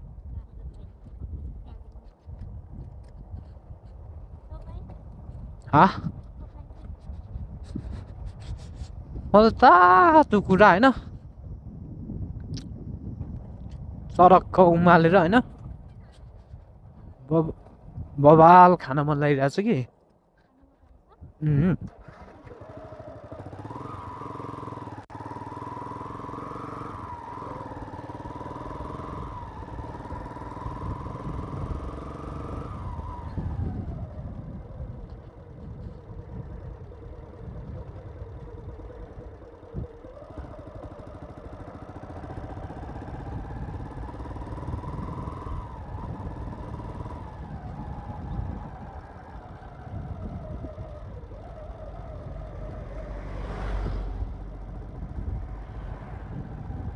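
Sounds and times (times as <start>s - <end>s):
motorcycle engine running: 0.0s - 18.5s, 20.6s - 56.9s
wind and road rumble: 0.0s - 56.9s.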